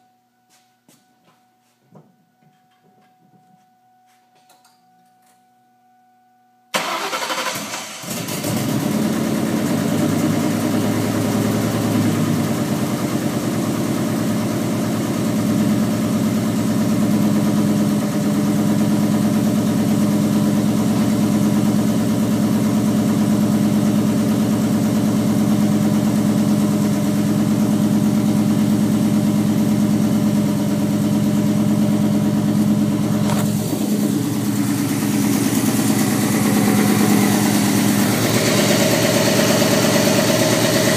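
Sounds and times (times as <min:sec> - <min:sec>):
car engine starting and idling: 0:06.7 - 0:40.9.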